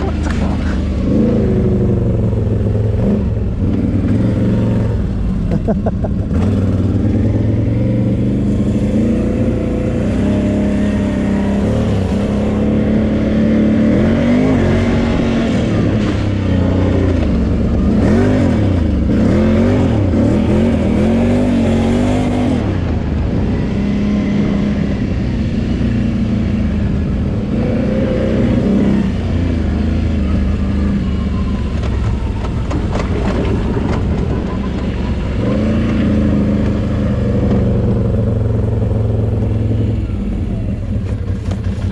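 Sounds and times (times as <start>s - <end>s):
quad engine revving: 0.0s - 31.6s, 33.0s - 41.9s.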